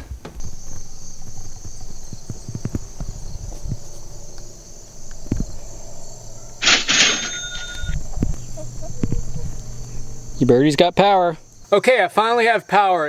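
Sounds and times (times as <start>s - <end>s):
crickets chirping: 0.4s - 13.0s.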